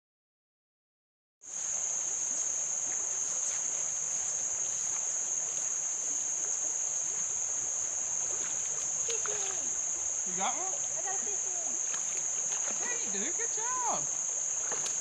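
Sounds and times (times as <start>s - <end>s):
low even hiss: 1.5s - 15.0s
insects shrilling chorus: 1.6s - 15.0s.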